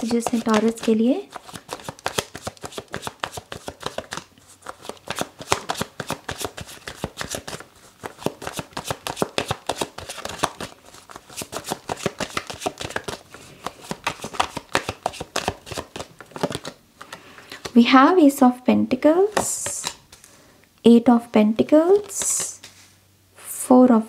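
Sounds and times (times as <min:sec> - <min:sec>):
cards being shuffled: 0:00.0 - 0:17.8, 0:19.3 - 0:20.4, 0:21.9 - 0:22.9.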